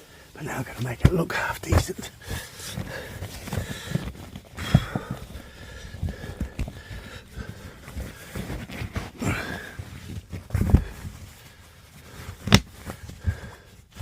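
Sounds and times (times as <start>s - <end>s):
bedding rustling: 0.0s - 14.0s.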